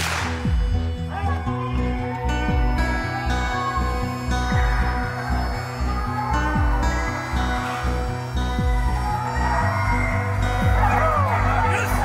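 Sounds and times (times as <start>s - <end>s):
deep repeating bass line: 0.0s - 12.0s
sustained synth tones: 0.7s - 12.0s.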